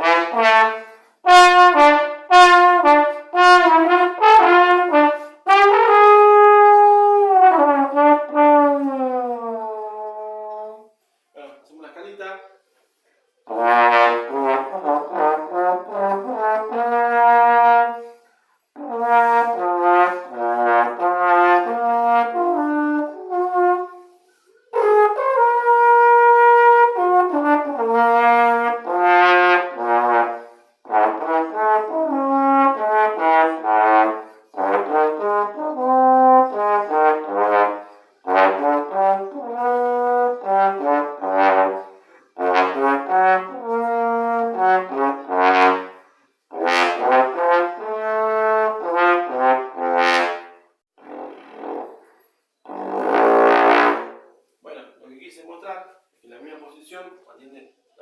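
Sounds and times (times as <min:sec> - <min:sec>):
trombone playing scales: 0:00.0 - 0:10.9, 0:13.5 - 0:54.5.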